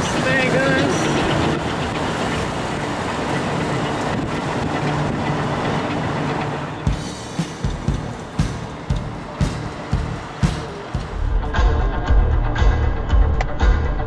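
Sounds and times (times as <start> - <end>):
vehicle road and engine noise: 0.0 - 14.0.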